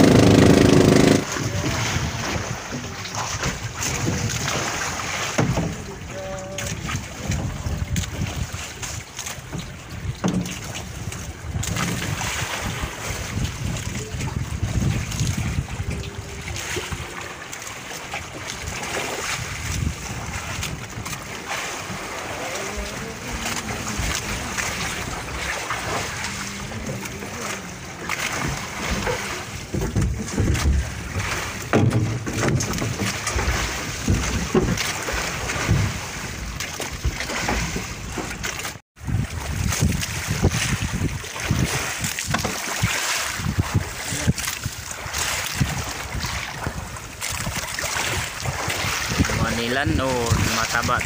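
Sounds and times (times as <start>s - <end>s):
wind buffeting microphone: 0.0s - 17.4s, 18.2s - 38.2s, 39.0s - 51.0s
choppy sea splashing against hull: 0.0s - 51.0s.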